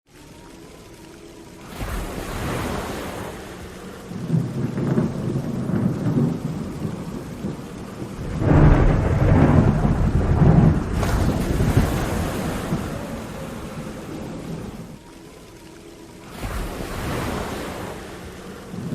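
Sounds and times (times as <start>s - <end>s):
heavy rain: 0.1s - 18.9s
thunder rumbling: 1.6s - 18.9s.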